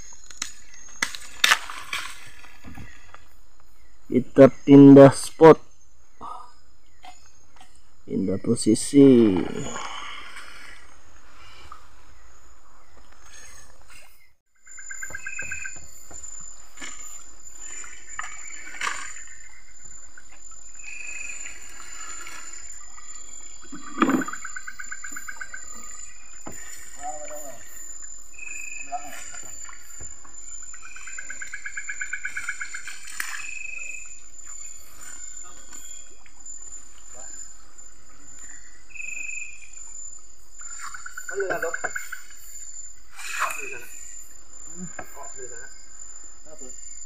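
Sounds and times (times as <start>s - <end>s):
high-pitched insect tone: 0.0s - 47.0s.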